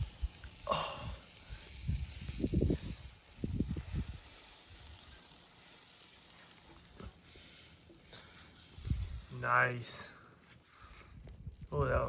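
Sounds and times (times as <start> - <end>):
batter sizzling in a hot pan: 0.0 - 12.0.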